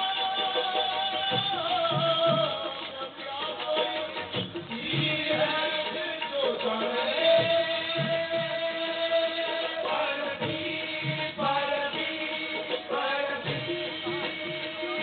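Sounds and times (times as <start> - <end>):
instrumental accompaniment: 0.0 - 15.0
person singing devotional song: 0.0 - 15.0.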